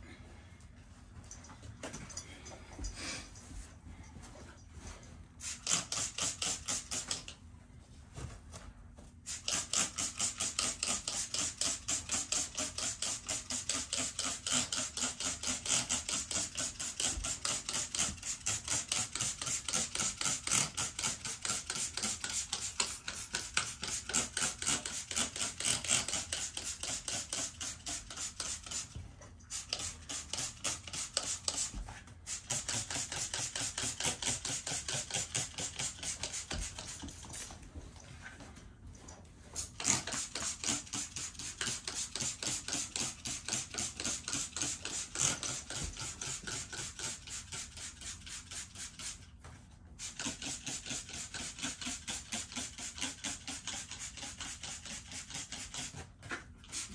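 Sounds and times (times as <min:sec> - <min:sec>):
spray bottle squirting: 0:05.4 - 0:07.3, 0:09.3 - 0:37.5, 0:39.6 - 0:49.3, 0:50.0 - 0:56.0, 0:56.6 - 0:56.9.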